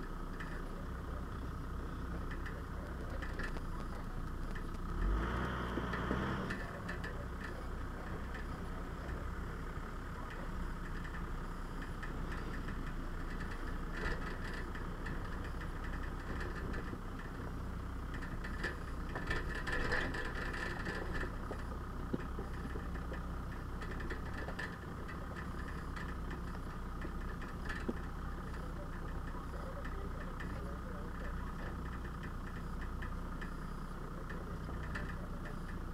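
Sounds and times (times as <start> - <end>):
off-road vehicle engine running: 0.0 - 35.9
vehicle knocking and rattling: 0.0 - 35.9.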